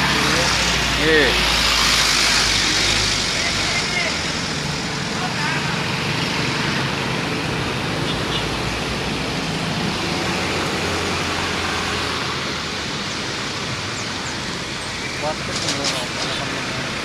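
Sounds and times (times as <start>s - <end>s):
heavy trucks passing: 0.0s - 17.0s
motorcycles passing: 0.0s - 17.0s.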